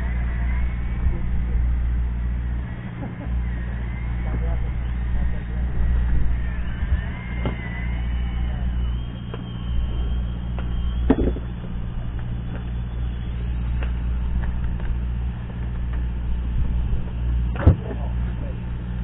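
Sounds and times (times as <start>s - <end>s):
boat motor droning: 0.0s - 19.0s.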